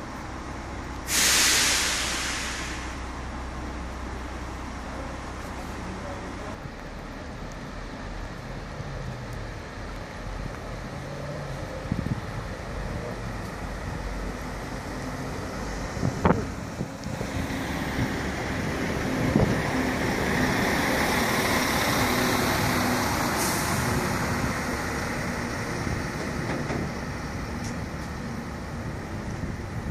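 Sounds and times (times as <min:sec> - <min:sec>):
diesel engines humming: 0:00.0 - 0:29.9
wheels rumbling on rails: 0:00.0 - 0:29.9.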